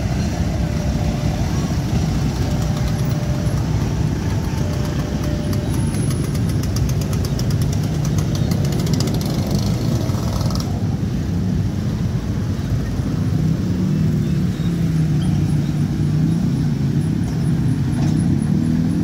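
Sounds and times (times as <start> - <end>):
vehicle engines idling: 0.0 - 19.0.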